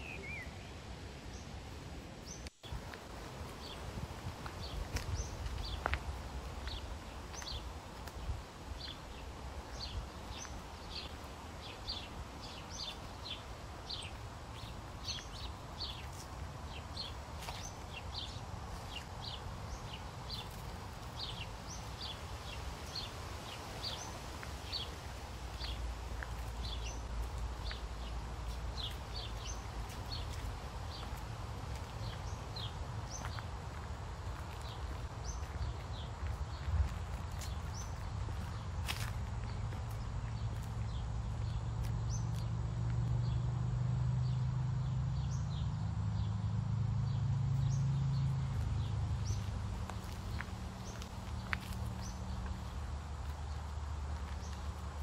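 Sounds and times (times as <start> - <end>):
small birds chirping: 0.0 - 1.6, 2.2 - 43.5, 44.2 - 46.5, 47.1 - 55.0.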